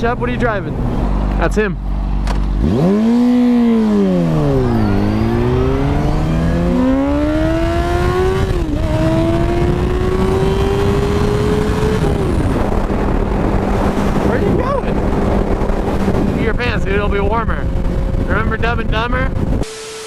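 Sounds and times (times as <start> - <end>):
motorcycle engine revving: 2.0 - 19.7
wind rushing: 2.0 - 19.7.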